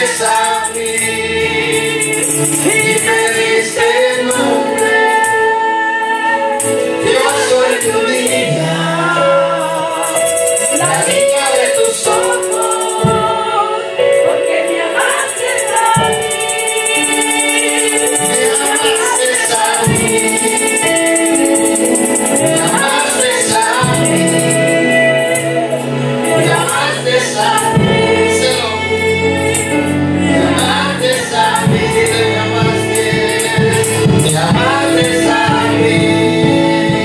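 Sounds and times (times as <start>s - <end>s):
rattling hand percussion: 0.0s - 5.5s, 6.6s - 13.4s, 14.2s - 37.0s
instrumental accompaniment: 0.0s - 37.0s
voices singing together: 0.0s - 37.0s.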